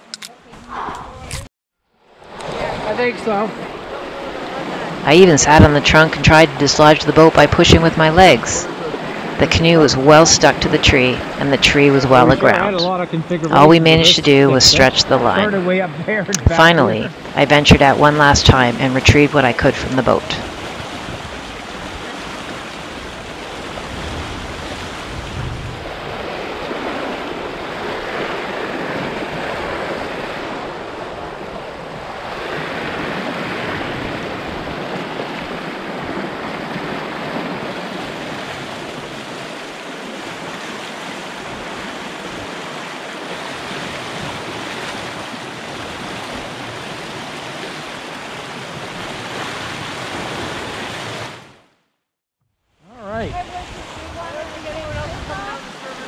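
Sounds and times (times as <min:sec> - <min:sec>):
river rushing in flood: 0:02.2 - 0:51.7, 0:52.8 - 0:56.0.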